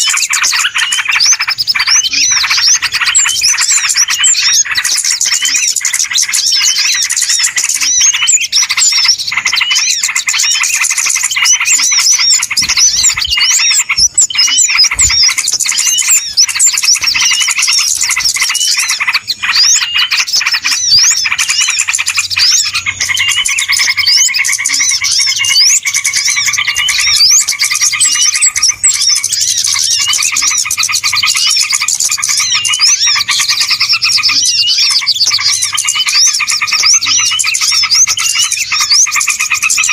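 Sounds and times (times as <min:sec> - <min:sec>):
low steady bird call: 0:00.0 - 0:39.9
many small birds chirping: 0:00.0 - 0:39.9.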